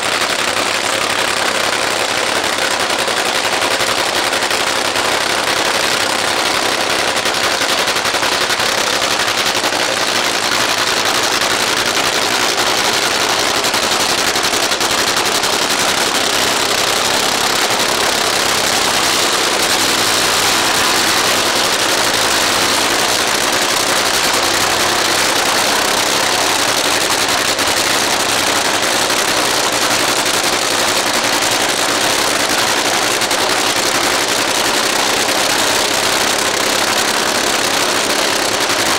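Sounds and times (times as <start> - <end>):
dragster engines idling: 0.0 - 38.9.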